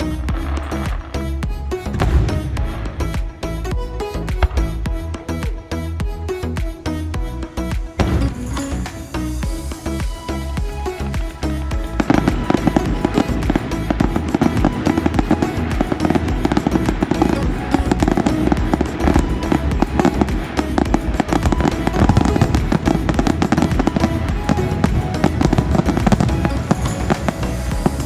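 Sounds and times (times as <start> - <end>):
background music: 0.0 - 28.0.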